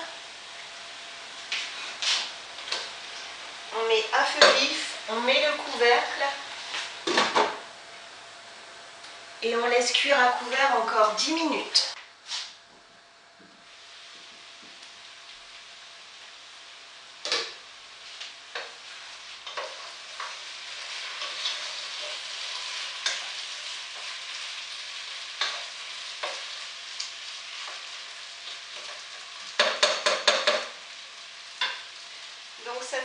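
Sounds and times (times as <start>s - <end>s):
potatoes sizzling in fat: 0.0s - 33.0s.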